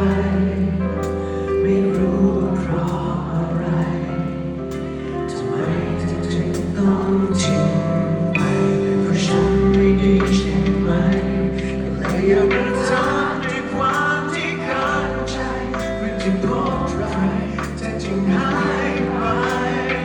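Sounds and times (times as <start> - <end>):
bass line: 0.0 - 20.0
music with singing voices: 0.0 - 20.0.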